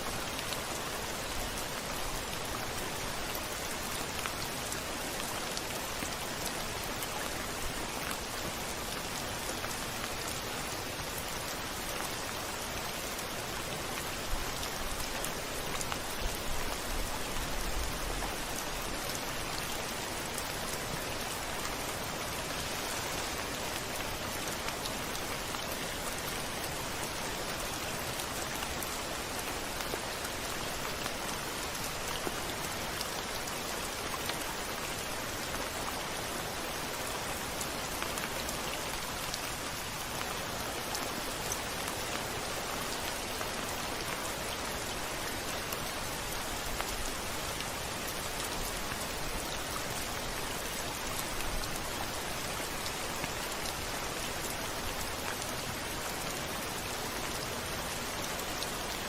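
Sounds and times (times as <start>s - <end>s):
heavy rain on a window: 0.0s - 59.0s.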